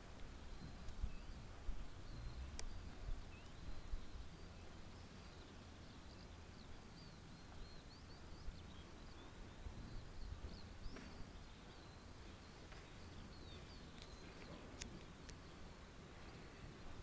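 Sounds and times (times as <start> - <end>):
low steady rumble: 0.0 - 17.0
small birds chirping: 0.0 - 17.0.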